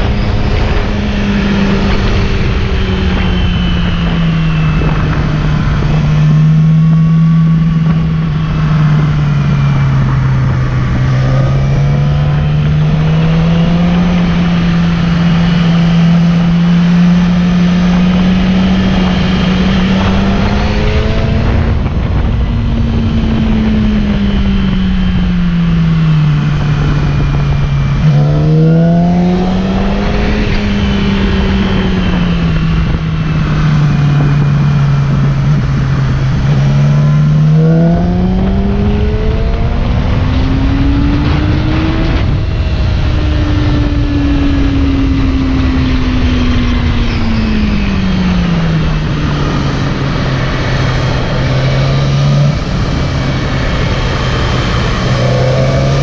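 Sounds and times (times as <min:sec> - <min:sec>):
motorcycle engine revving: 0:00.0 - 0:56.0
steady low rumble: 0:00.0 - 0:56.0.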